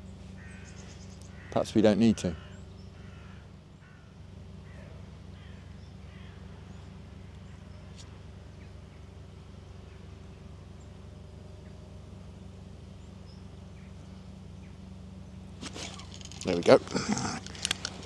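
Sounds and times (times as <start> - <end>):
faint bird calls: 0.0 - 18.0.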